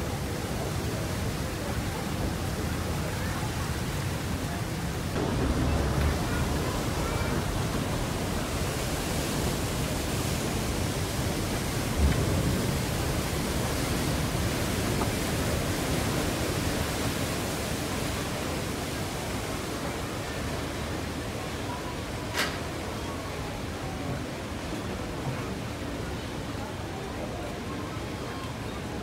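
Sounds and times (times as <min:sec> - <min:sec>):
water churned by paddle wheels: 0:00.0 - 0:29.0.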